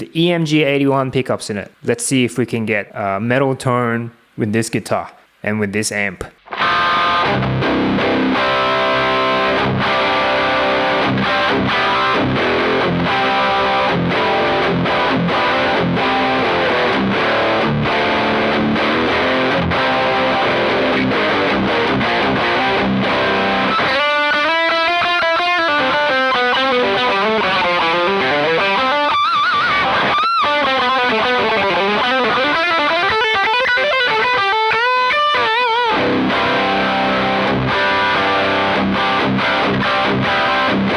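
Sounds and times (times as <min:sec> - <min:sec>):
distorted electric guitar: 0:06.2 - 0:40.9.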